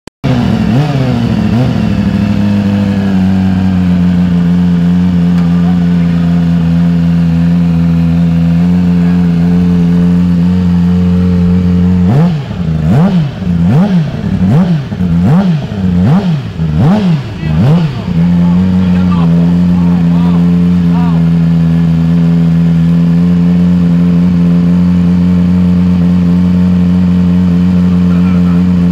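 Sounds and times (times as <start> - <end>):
motorcycle engine idling: 0.2 - 28.9
motorcycle throttle blips: 0.2 - 28.9.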